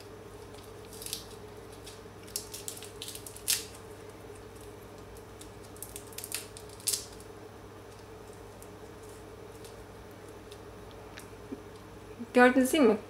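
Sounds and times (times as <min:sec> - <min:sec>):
faint steady hum: 0:00.0 - 0:13.0
chestnut shell cracking: 0:00.4 - 0:11.9.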